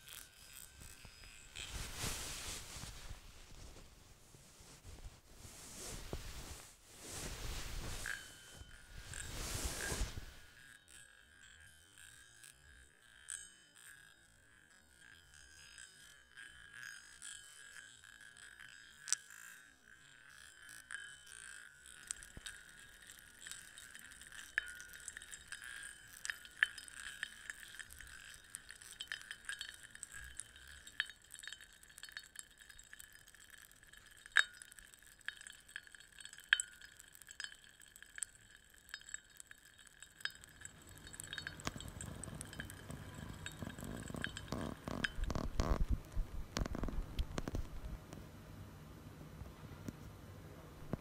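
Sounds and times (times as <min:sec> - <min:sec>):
glassy clicks and tinkles: 0:00.0 - 0:03.8, 0:04.7 - 0:48.0.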